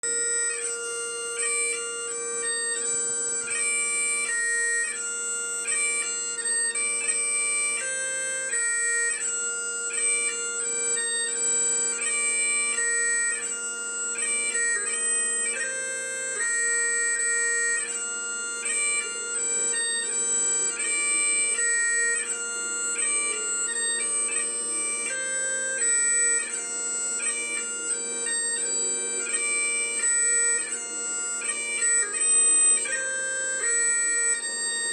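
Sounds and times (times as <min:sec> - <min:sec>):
bagpipes playing: 0:00.0 - 0:34.9.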